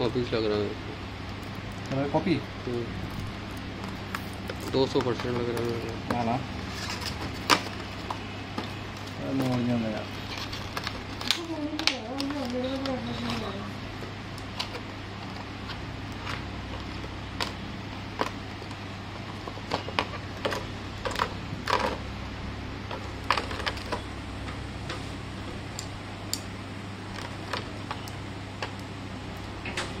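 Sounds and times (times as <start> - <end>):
steady low hum: 0.0 - 30.0
plastic packaging clicks and crackles: 1.2 - 13.7, 14.3 - 22.0, 25.8 - 29.9.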